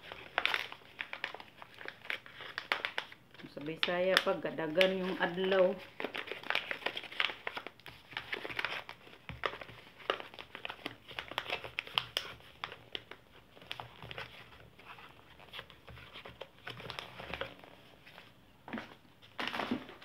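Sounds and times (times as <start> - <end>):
paper bag crinkling: 0.0 - 18.3.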